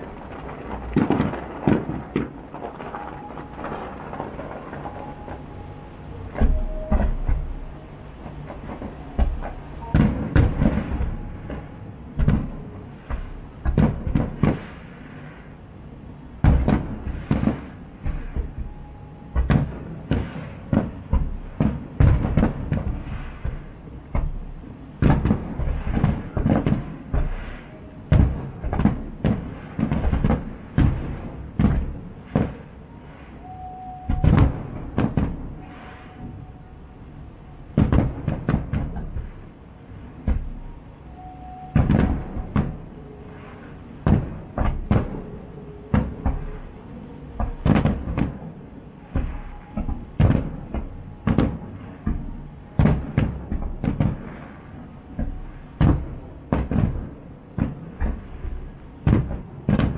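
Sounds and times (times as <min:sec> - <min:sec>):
fireworks booming: 0:00.0 - 0:59.9.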